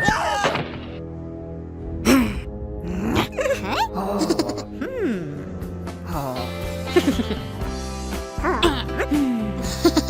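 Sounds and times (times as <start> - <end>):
background music sustained chords: 0.0 - 10.0.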